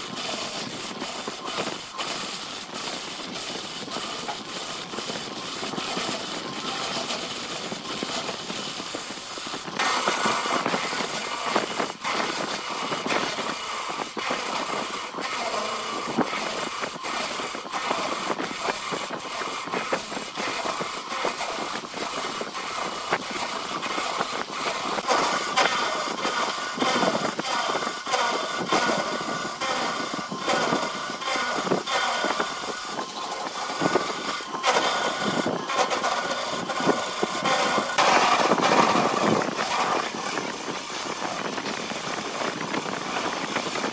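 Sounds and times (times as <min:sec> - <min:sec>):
lathe tool scraping wood: 0:00.0 - 0:43.9.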